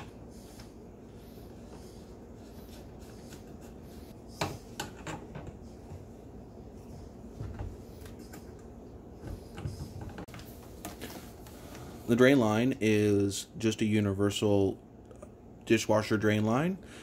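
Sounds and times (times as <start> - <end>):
room noise: 0.0 - 16.7.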